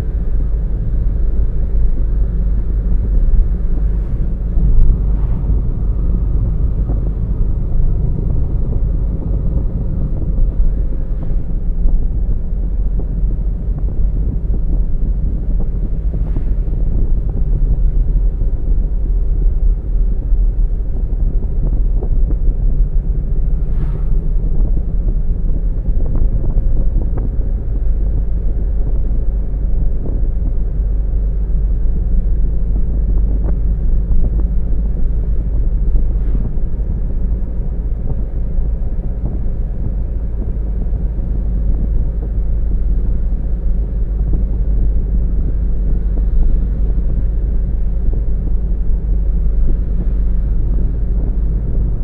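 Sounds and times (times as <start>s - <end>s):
car road and tyre noise: 0.0s - 52.0s.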